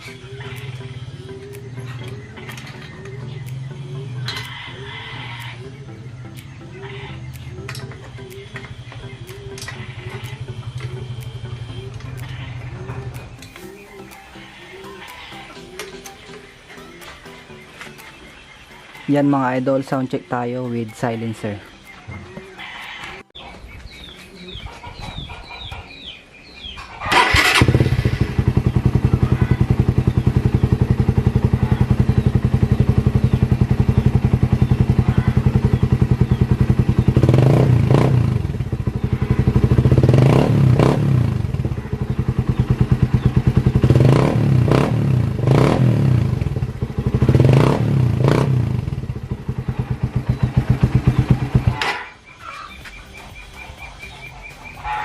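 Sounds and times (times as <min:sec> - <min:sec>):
motorcycle engine idling and revving: 0:00.0 - 0:18.7, 0:26.7 - 0:55.0.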